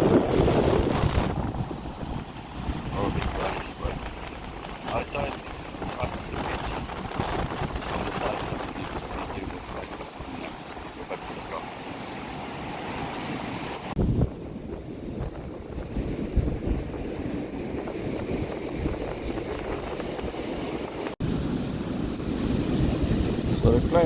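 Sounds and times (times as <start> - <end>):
ocean surf breaking on shore: 0.0 - 24.0
wind rumbling on microphone: 0.0 - 24.0.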